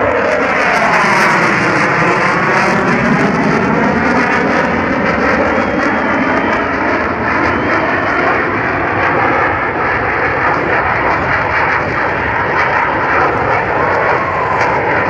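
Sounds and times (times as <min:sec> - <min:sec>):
fighter jet passing overhead: 0:00.0 - 0:15.0.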